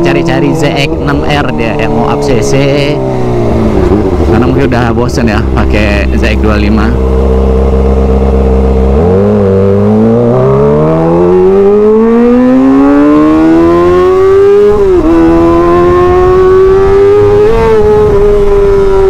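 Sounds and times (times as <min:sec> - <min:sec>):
motorcycle engine accelerating hard: 0:00.0 - 0:19.0.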